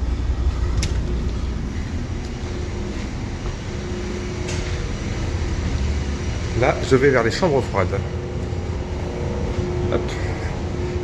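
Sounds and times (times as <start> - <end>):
ship machinery rumbling: 0.0 - 11.0.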